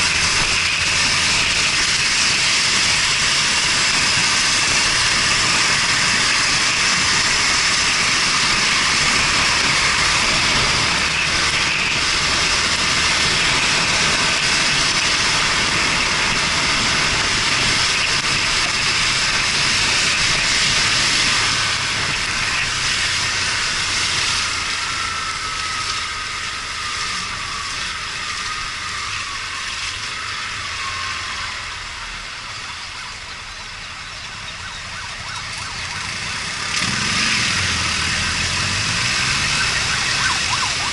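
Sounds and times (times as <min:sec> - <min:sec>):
wind and wet road hiss: 0:00.0 - 0:40.9.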